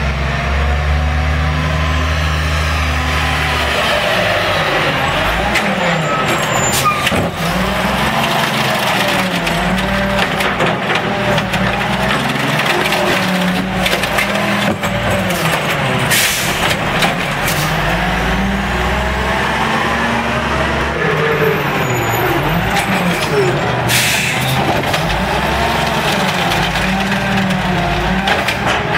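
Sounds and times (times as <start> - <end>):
garbage truck engine revving: 0.0 - 28.9.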